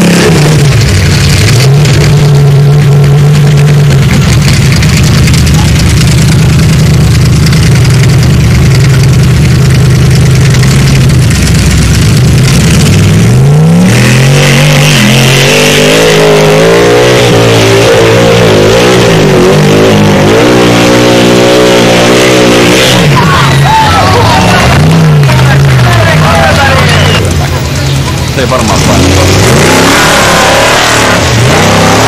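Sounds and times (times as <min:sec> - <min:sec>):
buggy engine revving: 0:00.0 - 0:32.0.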